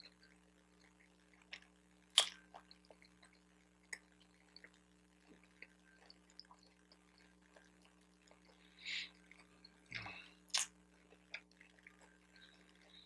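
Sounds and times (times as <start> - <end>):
wet chewing and mouth clicks: 0.0 - 13.0.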